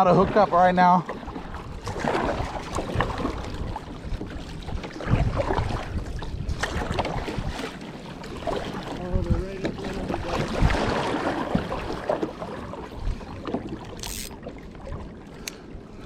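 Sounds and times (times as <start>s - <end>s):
wind buffeting microphone: 0.0s - 7.8s, 8.4s - 16.0s
knocks and splashes: 0.0s - 15.2s.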